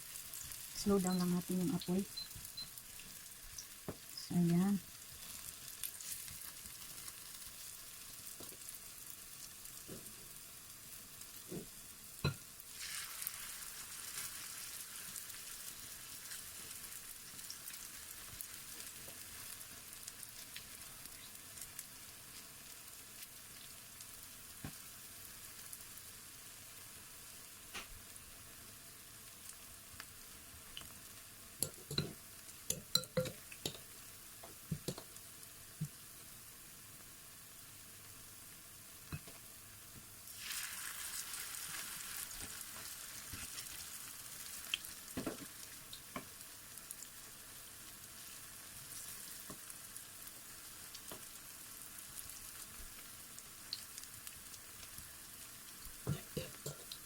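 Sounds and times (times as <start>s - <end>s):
fritters frying in hot oil: 0.0s - 57.0s.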